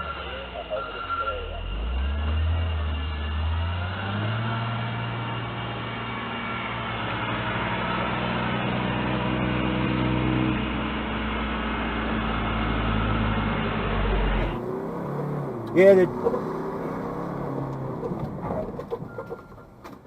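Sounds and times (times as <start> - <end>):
vehicle engine running: 0.0 - 19.9
tyre and road noise: 0.0 - 20.0.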